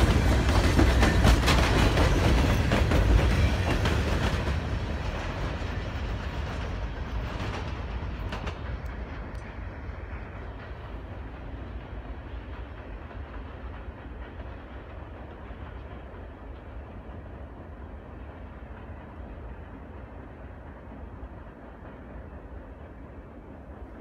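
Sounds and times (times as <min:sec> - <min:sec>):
freight train cars rolling: 0:00.0 - 0:24.0.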